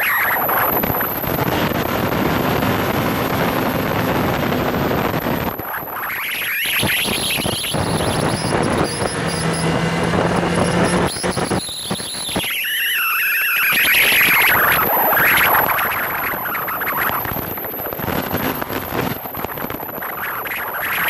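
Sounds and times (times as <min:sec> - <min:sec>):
motorcycle engine whine: 0:00.0 - 0:21.0
wind noise: 0:00.0 - 0:21.0.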